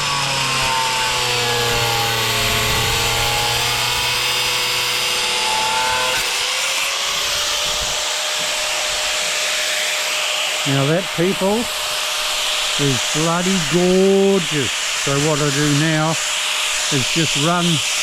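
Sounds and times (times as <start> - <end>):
angle grinder cutting tile: 0.0 - 18.0.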